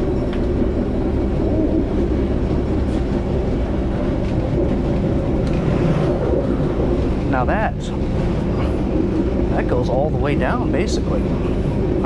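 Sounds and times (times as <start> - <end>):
constant hum: 0.0 - 12.0
train rumbling and rolling: 0.0 - 12.0.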